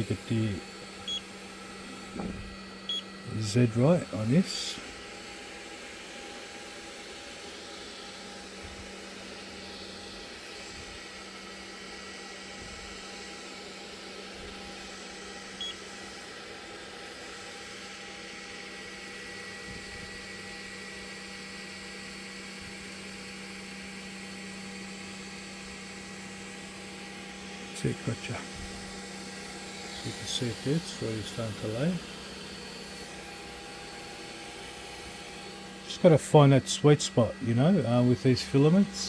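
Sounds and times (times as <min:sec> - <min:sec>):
printer mechanical hum: 0:00.0 - 0:18.5, 0:25.6 - 0:39.0.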